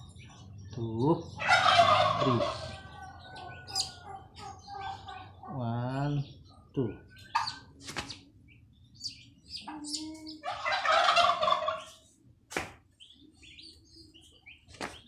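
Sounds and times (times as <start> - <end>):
turkey poults peeping: 0.0 - 15.0.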